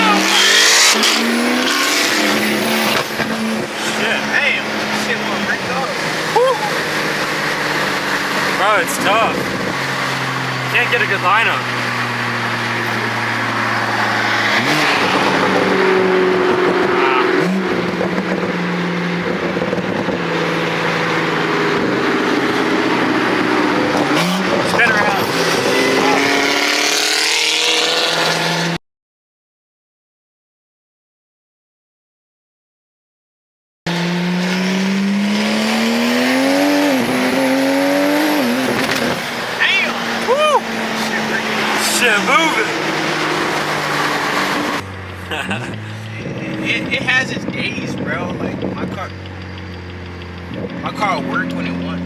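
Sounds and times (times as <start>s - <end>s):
car engine revving: 0.0s - 28.8s, 33.9s - 52.0s.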